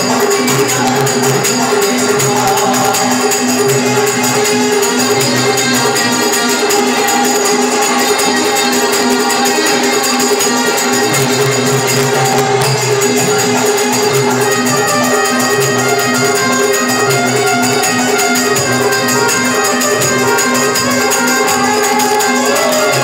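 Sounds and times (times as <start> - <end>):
harmonium and keyboard chords: 0.0 - 23.0
jingling hand percussion: 0.0 - 23.0.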